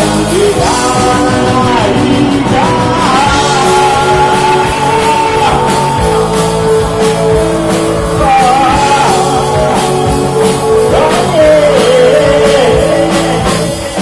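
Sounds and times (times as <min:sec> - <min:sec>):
drums keeping a beat: 0:00.0 - 0:14.0
lead guitar line bending: 0:00.0 - 0:14.0
live rock band playing: 0:00.0 - 0:14.0.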